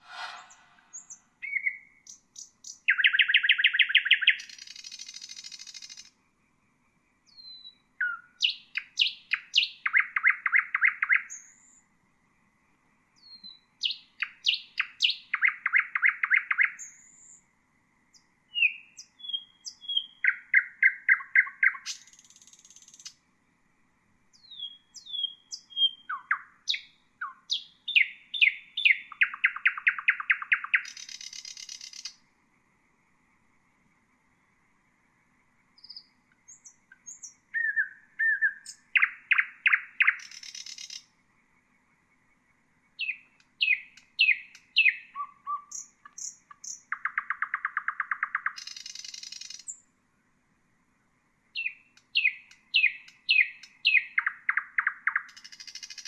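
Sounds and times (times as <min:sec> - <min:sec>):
nightingale singing: 0:00.0 - 0:06.1, 0:07.3 - 0:11.8, 0:13.2 - 0:17.5, 0:18.2 - 0:23.2, 0:24.3 - 0:32.2, 0:35.8 - 0:41.2, 0:42.2 - 0:49.9, 0:51.5 - 0:56.0.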